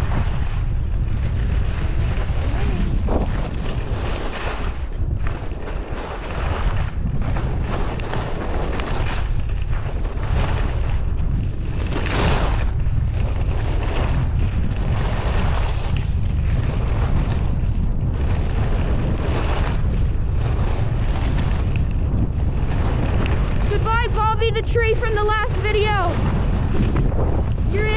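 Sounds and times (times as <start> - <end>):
skis carving packed snow: 0.0 - 27.9
wind rushing over microphone: 0.0 - 27.9.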